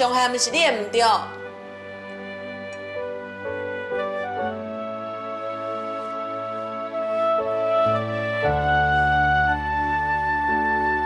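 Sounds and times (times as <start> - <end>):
soft sad music: 0.0 - 11.0.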